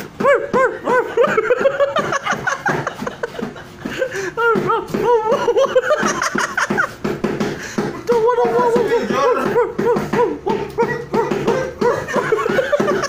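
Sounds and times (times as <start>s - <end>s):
people laughing: 0.5s - 13.0s.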